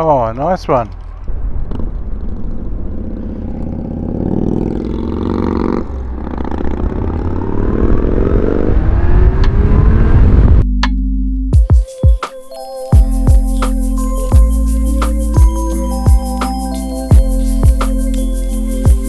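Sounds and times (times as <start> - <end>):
motorcycle engine accelerating: 0.0 - 10.6, 13.0 - 19.0.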